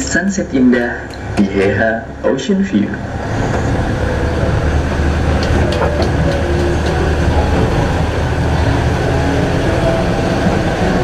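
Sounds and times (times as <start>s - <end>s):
engine and road noise rumble: 0.0s - 11.0s.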